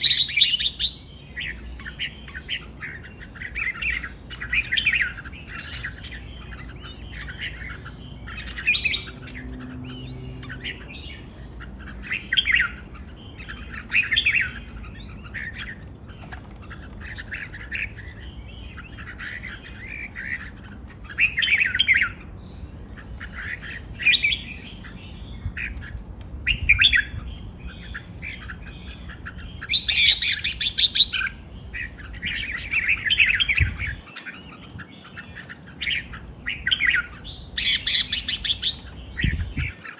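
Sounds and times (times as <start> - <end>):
birds singing chirpy phrases: 0.0 - 39.9.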